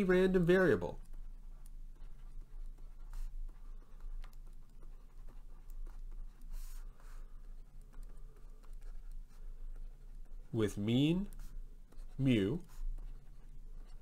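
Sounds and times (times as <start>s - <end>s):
low steady hum: 0.0s - 14.0s
pen scratching on paper: 0.0s - 14.0s.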